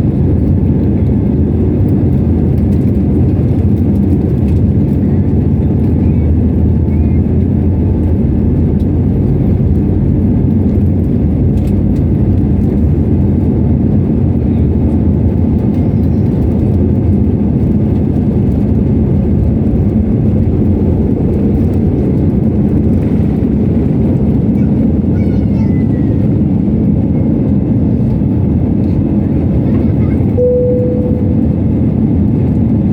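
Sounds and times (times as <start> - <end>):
jet engines rumbling: 0.0 - 32.9.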